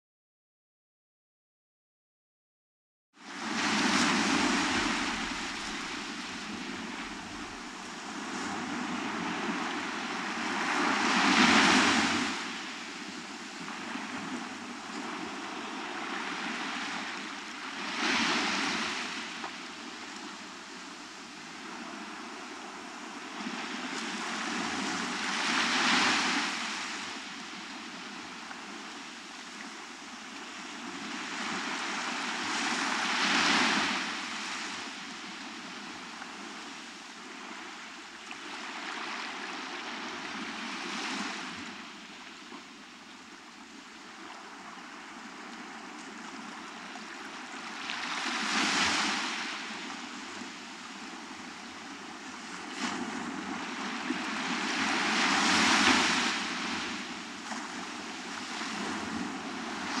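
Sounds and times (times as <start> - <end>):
waves breaking on beach: 3.2 - 60.0.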